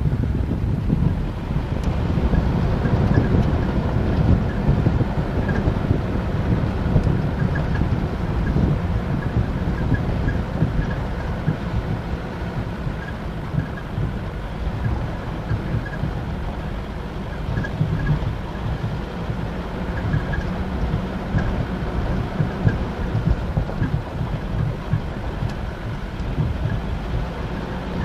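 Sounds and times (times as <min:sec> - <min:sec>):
engine and tyres rumbling: 0:00.0 - 0:28.0
wind buffeting microphone: 0:00.0 - 0:28.0.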